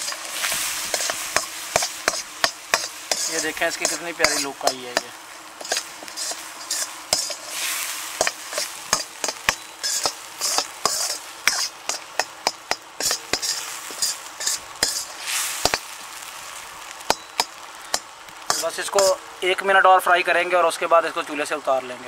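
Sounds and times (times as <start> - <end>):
frying sizzle: 0.0 - 22.0.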